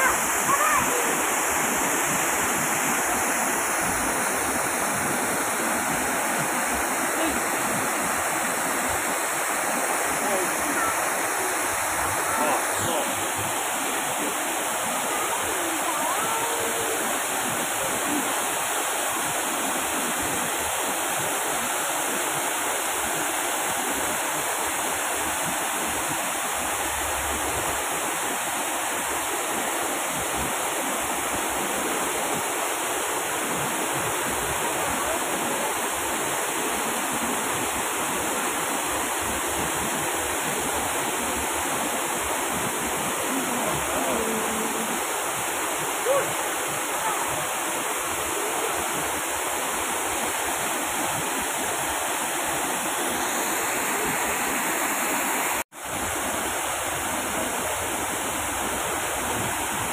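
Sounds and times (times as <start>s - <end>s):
waterfall splashing into pond: 0.0s - 59.9s.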